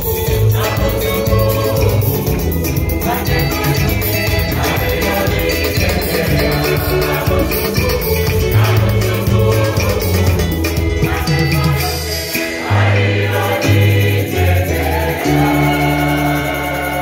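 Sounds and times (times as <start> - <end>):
choir singing a hymn: 0.0 - 17.0
rhythmic percussion: 0.0 - 17.0.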